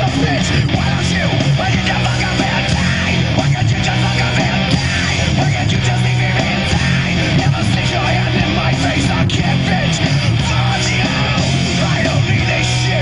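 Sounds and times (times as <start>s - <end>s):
heavy rock music with electric guitar: 0.0s - 13.0s.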